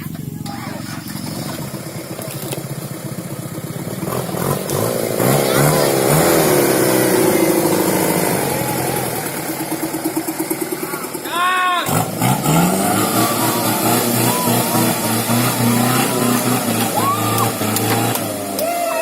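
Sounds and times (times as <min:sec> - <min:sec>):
vehicle engine revving: 0:00.0 - 0:11.2, 0:11.8 - 0:19.0.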